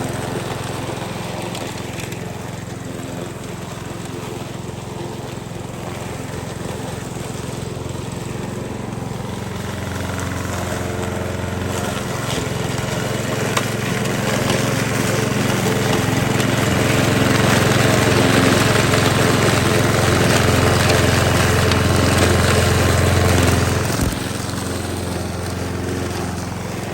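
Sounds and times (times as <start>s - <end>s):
grass cutter engine running: 0.0s - 26.9s.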